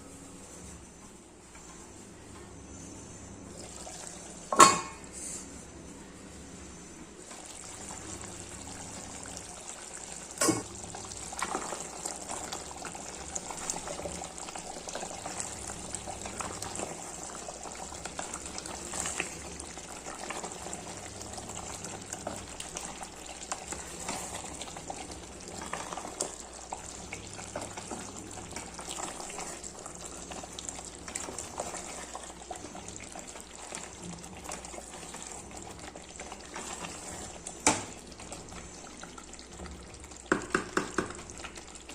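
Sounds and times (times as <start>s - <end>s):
curry bubbling and sizzling: 7.2s - 41.9s.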